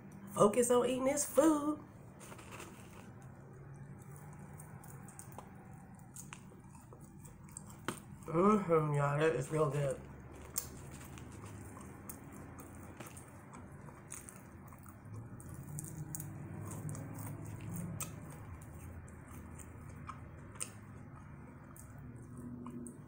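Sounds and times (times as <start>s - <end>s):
chewing crunchy food: 2.1s - 8.4s, 9.0s - 23.0s.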